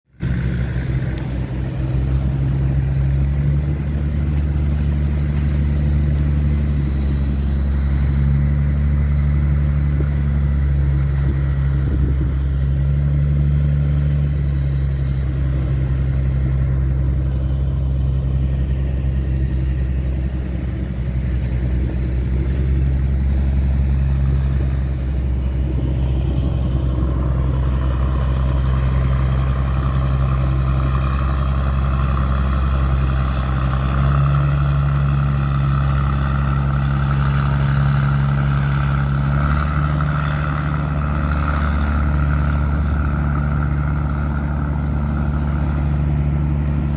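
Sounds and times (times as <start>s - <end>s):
boat diesel engine drone: 0.0s - 46.9s.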